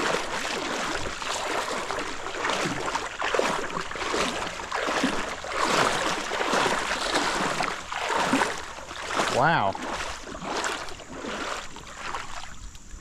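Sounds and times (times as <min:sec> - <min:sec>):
creek water splashing: 0:00.0 - 0:13.0.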